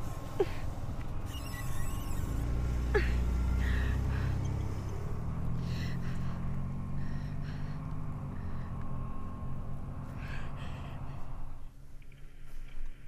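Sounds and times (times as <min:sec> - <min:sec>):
car engine pulling away: 0:00.0 - 0:11.7.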